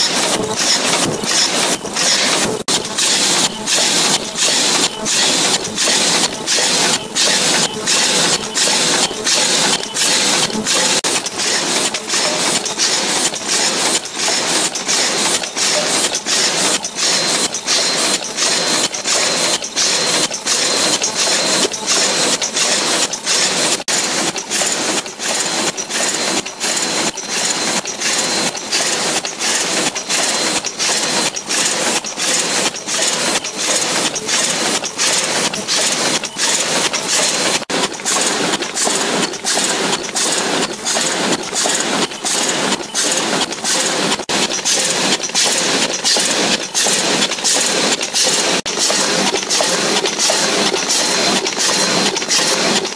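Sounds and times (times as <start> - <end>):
machine clattering rhythmically: 0.0 - 52.9.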